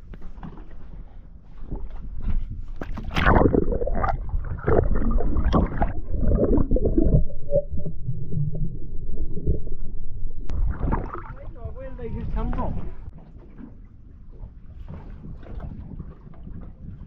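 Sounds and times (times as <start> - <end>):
underwater gurgling and sloshing: 0.0 - 17.0.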